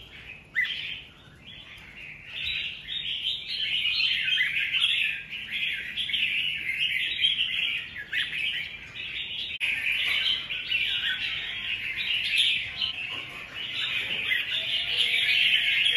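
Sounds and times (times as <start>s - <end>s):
bulbuls chirping and calling: 0.0s - 15.9s.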